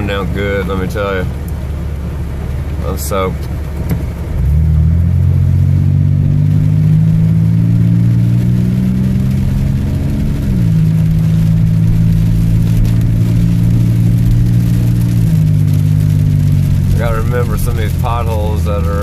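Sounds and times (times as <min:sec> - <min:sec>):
car engine while driving: 0:00.0 - 0:19.0.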